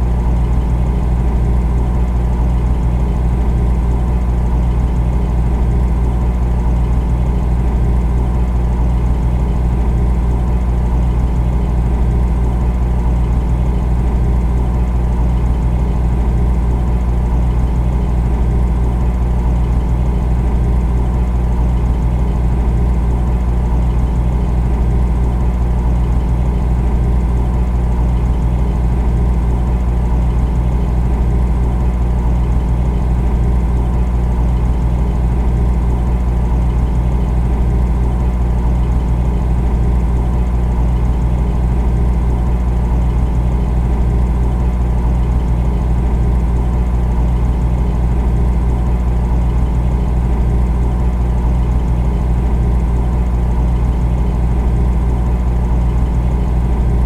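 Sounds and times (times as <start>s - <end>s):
refrigerator humming: 0.0s - 57.0s.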